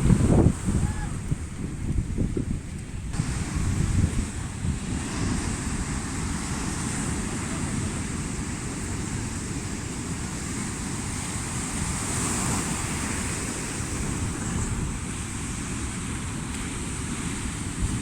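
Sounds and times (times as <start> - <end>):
sea waves breaking: 0.0 - 2.2, 2.9 - 18.0
wind rumble on microphone: 0.0 - 18.0.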